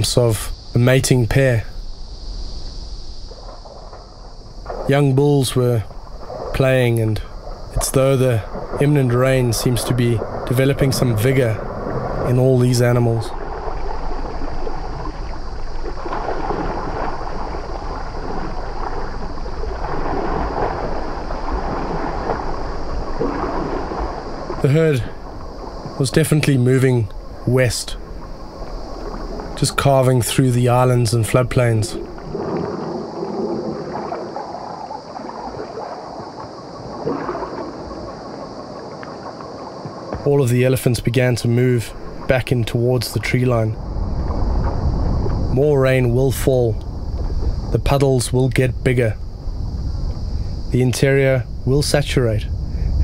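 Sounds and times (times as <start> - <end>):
steady high hiss: 0.0 - 53.0
water splashing and sloshing: 0.0 - 53.0.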